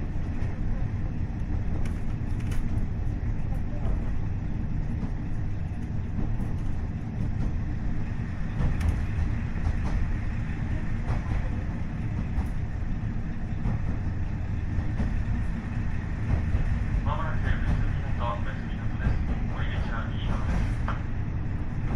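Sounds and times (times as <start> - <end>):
diesel railcar rumble: 0.0 - 21.9.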